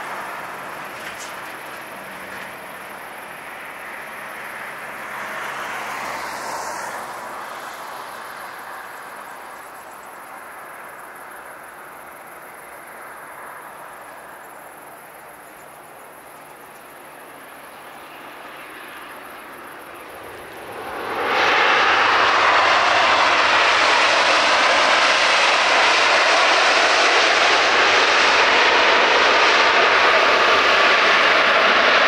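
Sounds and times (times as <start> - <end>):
distant jet engine roar: 0.0 - 32.0.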